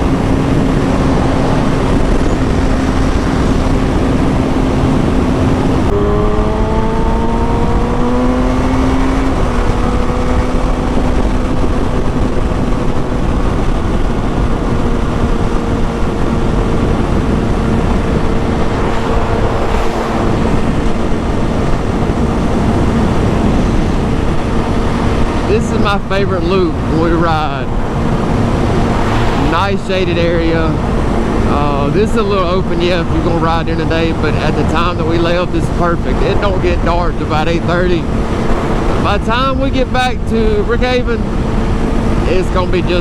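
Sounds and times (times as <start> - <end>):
motorcycle engine: 0.0 - 42.3
wind rush: 0.0 - 43.0.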